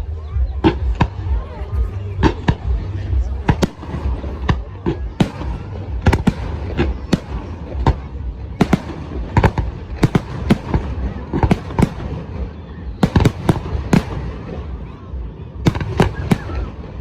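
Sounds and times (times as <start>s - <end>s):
fireworks bangs: 0.6s - 17.0s.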